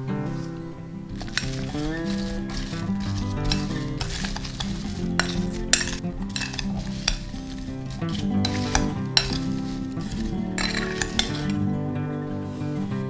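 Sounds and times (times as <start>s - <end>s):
utensil scraping a mixing bowl: 1.1s - 11.7s.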